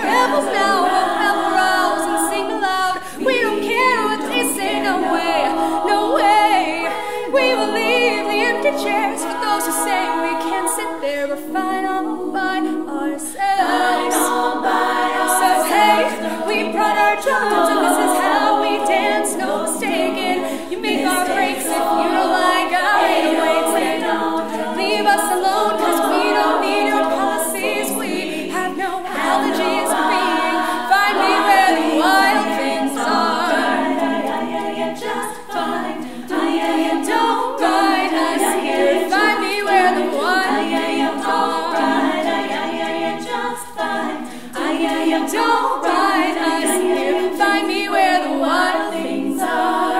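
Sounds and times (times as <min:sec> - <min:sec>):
female a cappella group singing: 0:00.0 - 0:49.9.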